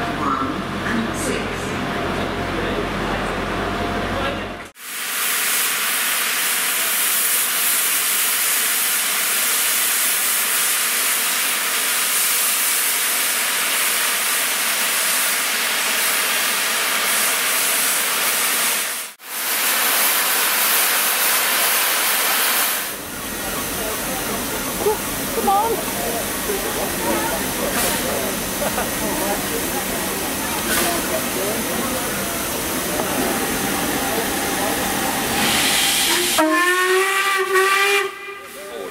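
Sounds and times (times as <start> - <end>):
steam locomotive hissing: 4.8 - 38.9.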